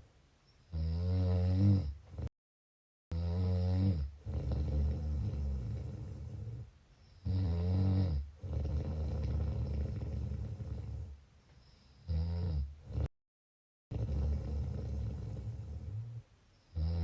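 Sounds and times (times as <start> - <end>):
person snoring: 0.7 - 2.3, 3.1 - 11.2, 12.0 - 13.1, 13.9 - 17.0.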